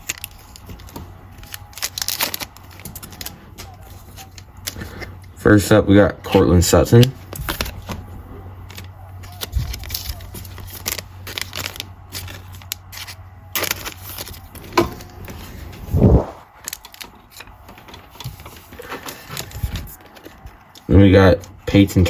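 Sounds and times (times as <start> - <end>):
cards clicking and rustling: 0.0 - 5.3, 6.8 - 15.8, 16.5 - 22.0.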